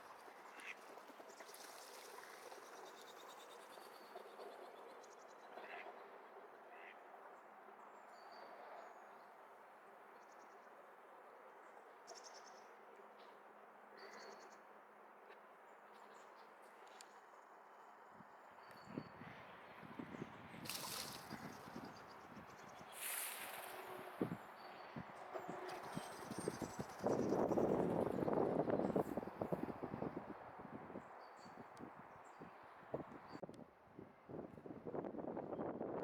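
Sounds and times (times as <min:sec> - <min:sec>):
wind: 0:00.0 - 0:36.0.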